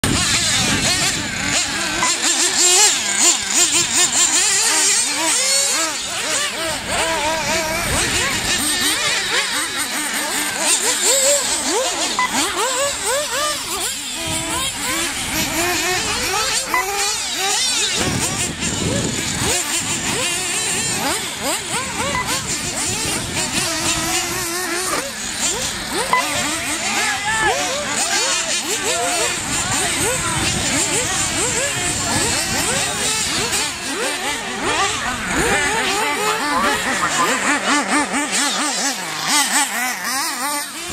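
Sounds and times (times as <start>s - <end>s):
low engine drone: 0.0s - 40.9s
small engines revving: 0.0s - 40.9s.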